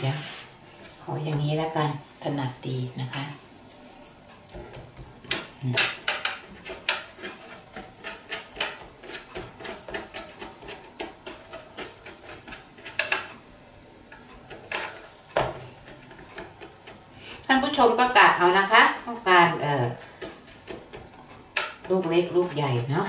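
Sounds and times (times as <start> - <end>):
hands rolling dough on wood: 0.0 - 23.0.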